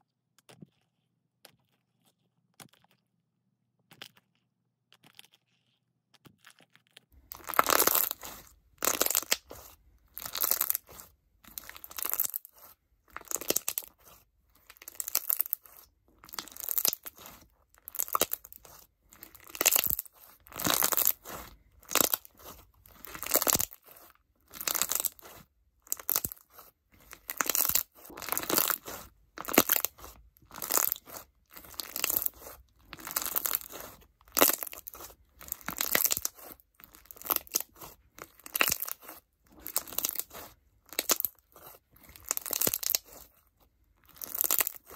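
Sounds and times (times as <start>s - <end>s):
crunchy slime crackling: 6.4s - 44.9s.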